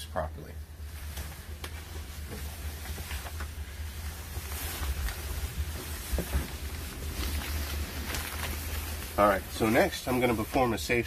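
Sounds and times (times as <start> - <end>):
low steady rumble: 0.0 - 11.0
handling clicks and rustles: 0.8 - 11.0.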